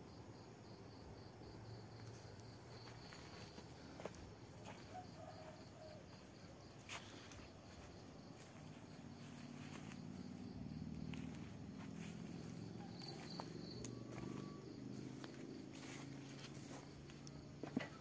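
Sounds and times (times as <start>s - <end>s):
insect chirping: 0.0s - 18.0s.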